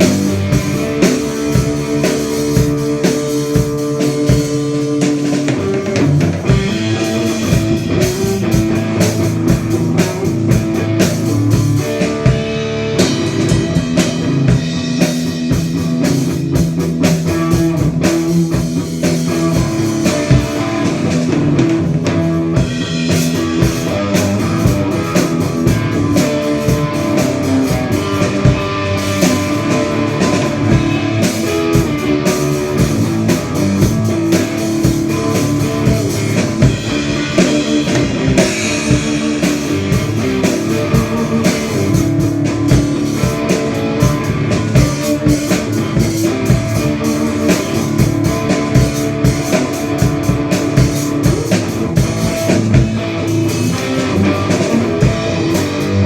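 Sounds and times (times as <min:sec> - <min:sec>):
drum kit beat: 0:00.0 - 0:56.0
electric guitar: 0:00.0 - 0:56.0
rock band playing: 0:00.0 - 0:56.0.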